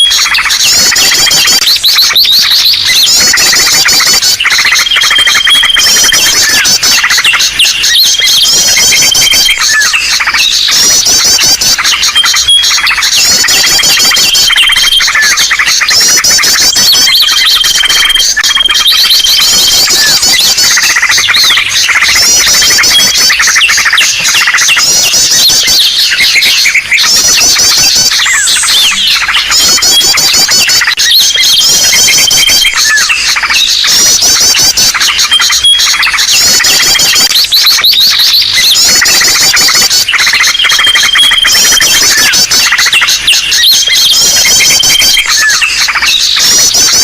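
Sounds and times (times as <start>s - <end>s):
chorus of small birds calling: 0.0s - 47.0s.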